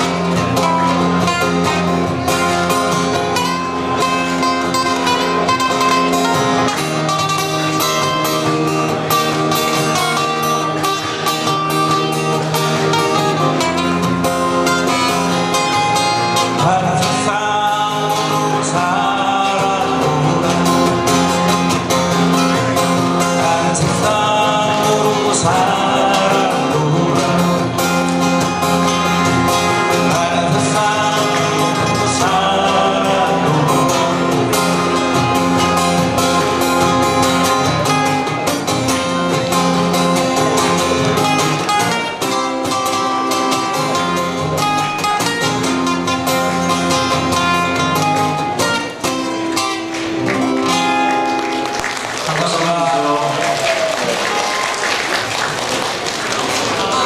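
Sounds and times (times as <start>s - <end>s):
acoustic guitar ensemble: 0.0s - 57.0s.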